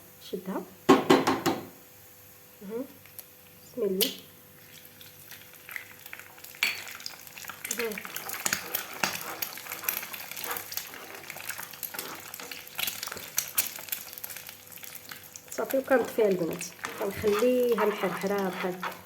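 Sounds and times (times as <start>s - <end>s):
egg sizzling and crackling in a pan: 1.9s - 19.0s.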